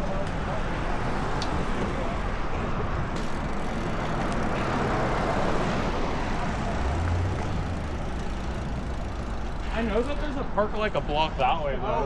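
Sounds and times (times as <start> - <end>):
wind and road rushing noise: 0.0 - 11.9.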